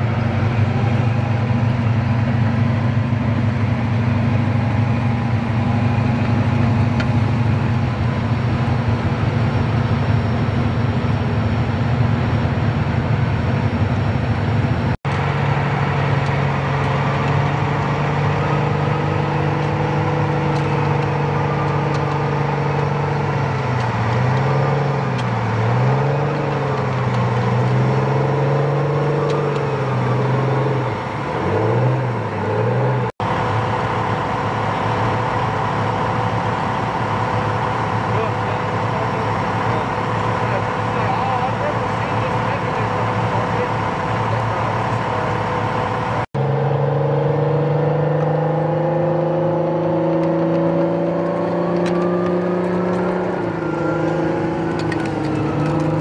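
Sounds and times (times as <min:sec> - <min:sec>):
armored carrier engine revving: 0:00.0 - 0:56.0
tracked vehicle diesel engines: 0:00.0 - 0:56.0.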